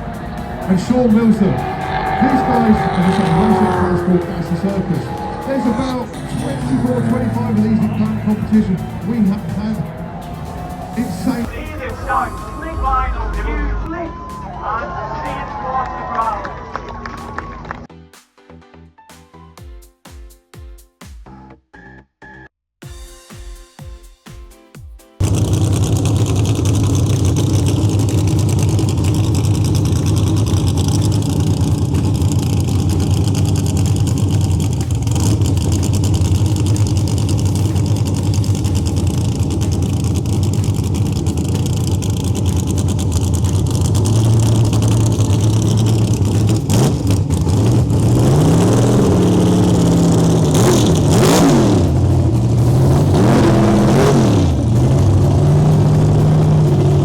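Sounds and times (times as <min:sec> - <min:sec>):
car engine idling and revving: 0:00.0 - 0:13.9, 0:25.2 - 0:57.0.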